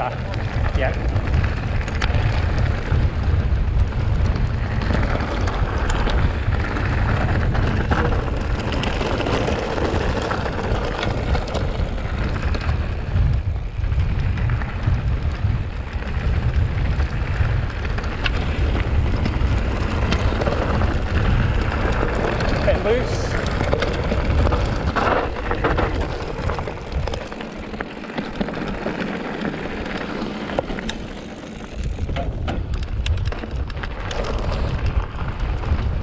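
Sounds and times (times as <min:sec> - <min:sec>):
bike clicks and rattles: 0:00.0 - 0:36.0
bike tyres on gravel: 0:00.0 - 0:36.0
wind buffeting microphone: 0:00.0 - 0:36.0.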